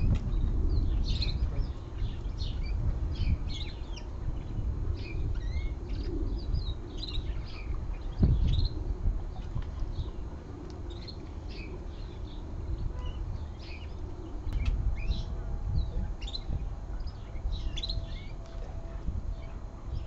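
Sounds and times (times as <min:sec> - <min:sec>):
low rumble: 0:00.0 - 0:20.0
small birds chirping: 0:00.0 - 0:20.0.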